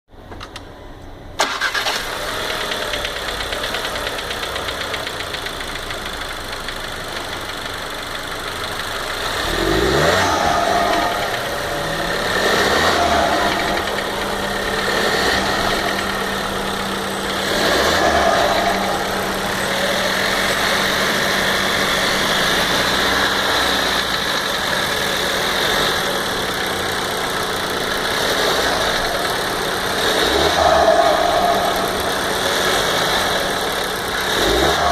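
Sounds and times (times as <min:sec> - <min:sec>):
car engine revving: 0:01.4 - 0:34.9
engine knocking: 0:01.5 - 0:34.9.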